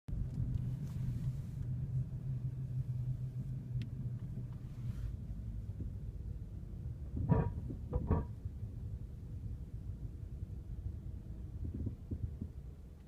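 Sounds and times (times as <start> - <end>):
vehicle low rumble: 0.1 - 13.0.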